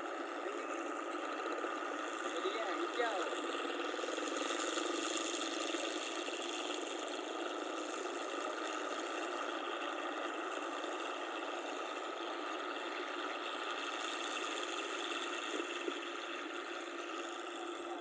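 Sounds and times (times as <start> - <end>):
harvester engine humming: 0.0 - 18.0.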